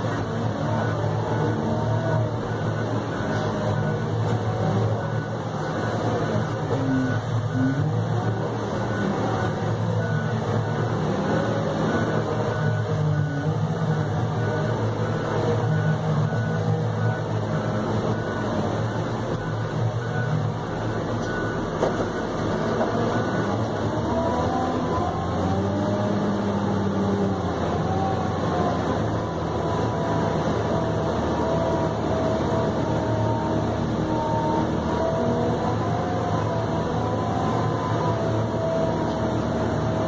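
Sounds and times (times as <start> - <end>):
diesel engine hum: 0.0 - 40.0.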